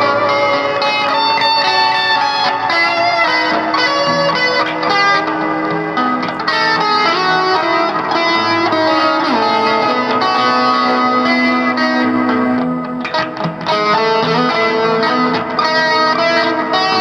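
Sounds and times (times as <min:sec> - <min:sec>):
electric guitar notes: 0:00.0 - 0:17.0.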